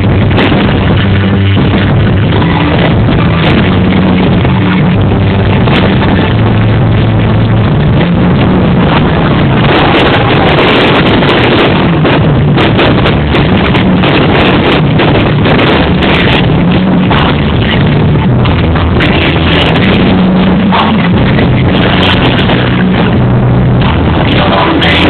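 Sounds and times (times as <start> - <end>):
fireworks bangs and crackles: 0.0 - 25.0
loud music from loudspeakers: 0.0 - 25.0.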